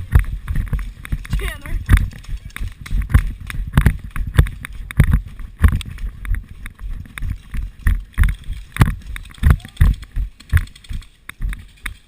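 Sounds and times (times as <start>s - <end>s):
footsteps: 0.0s - 12.0s
gear rattling against camera: 0.0s - 12.0s.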